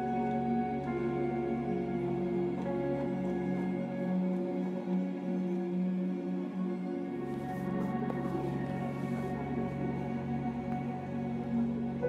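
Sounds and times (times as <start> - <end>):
film score music holding a chord: 0.0 - 12.0.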